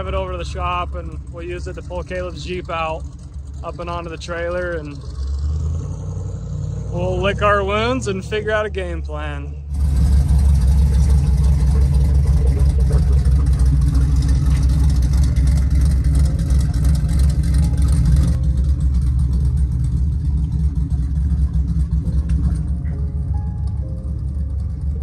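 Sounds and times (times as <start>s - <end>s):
engine deep steady rumble: 0.0s - 25.0s.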